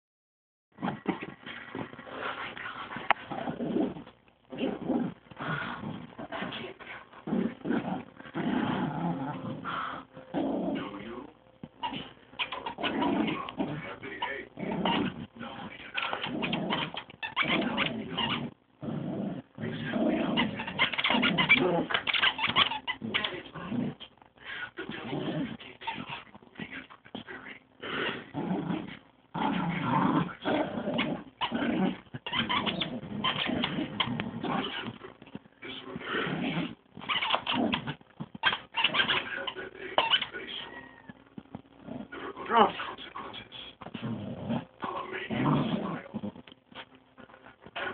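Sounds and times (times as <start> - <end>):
dogs growling and whining: 0.8 - 11.0, 11.7 - 24.1, 24.9 - 26.4, 27.8 - 42.8, 43.9 - 47.9.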